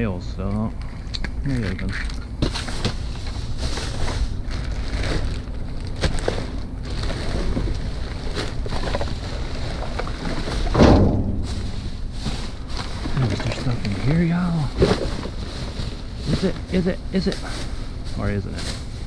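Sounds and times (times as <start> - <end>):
steady low rumble: 0.0 - 19.0
items rummaged in a dumpster: 1.4 - 19.0
clatter in a dumpster: 1.6 - 18.9.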